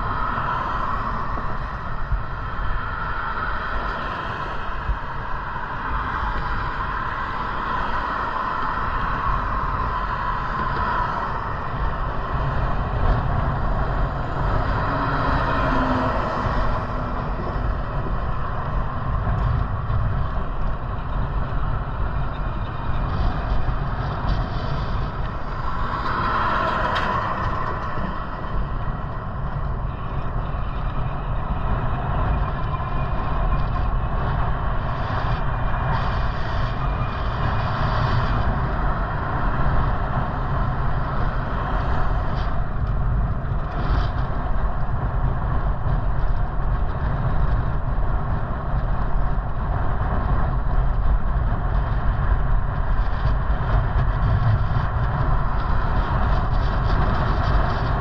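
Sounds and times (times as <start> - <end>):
wind rumble: 0.0 - 58.0.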